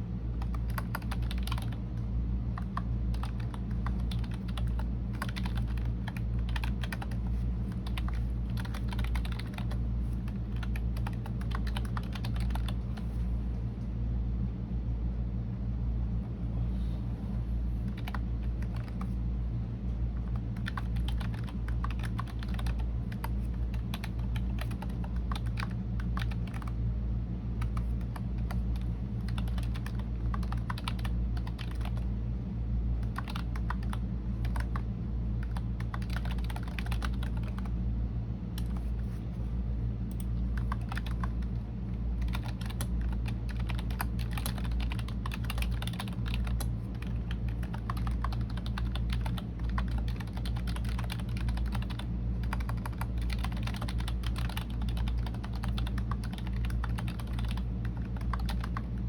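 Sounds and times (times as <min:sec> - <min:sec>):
steady low hum: 0:00.0 - 0:59.0
computer keyboard typing: 0:00.4 - 0:01.8, 0:02.6 - 0:13.2, 0:17.8 - 0:19.2, 0:20.2 - 0:26.8, 0:27.6 - 0:32.1, 0:33.0 - 0:34.8, 0:35.4 - 0:37.7, 0:38.6 - 0:38.9, 0:40.1 - 0:41.6, 0:42.2 - 0:59.0.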